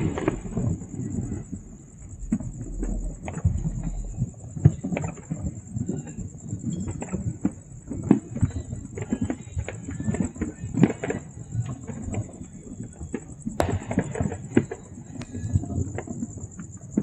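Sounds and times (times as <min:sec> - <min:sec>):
fireworks pops and bangs: 0:00.0 - 0:17.0.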